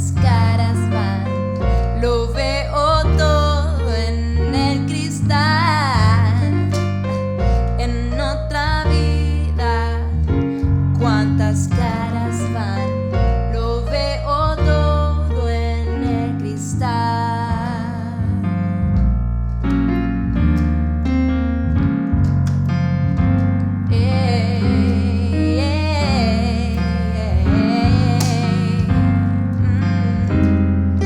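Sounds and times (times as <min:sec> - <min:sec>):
deep sustained bass: 0:00.0 - 0:31.0
electric piano chords: 0:00.0 - 0:31.0.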